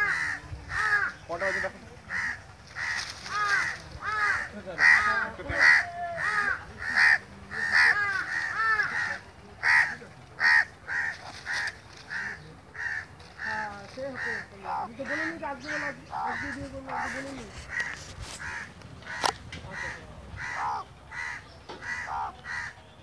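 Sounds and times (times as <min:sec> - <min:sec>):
crows cawing harshly: 0:00.0 - 0:22.8.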